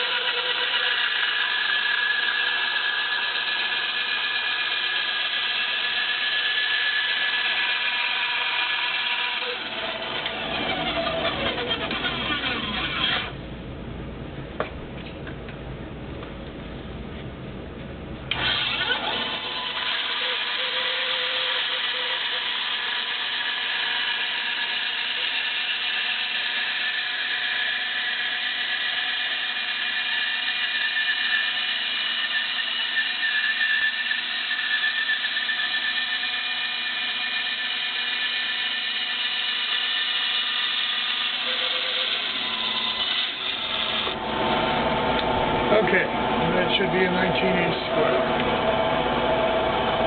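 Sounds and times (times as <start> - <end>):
power tool motor whine: 0.0 - 13.4, 18.3 - 46.4.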